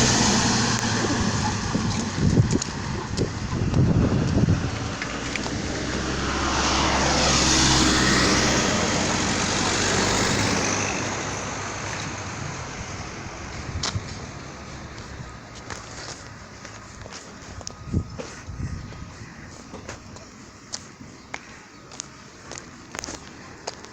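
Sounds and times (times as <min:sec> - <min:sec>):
airplane flying overhead: 0:00.0 - 0:23.9.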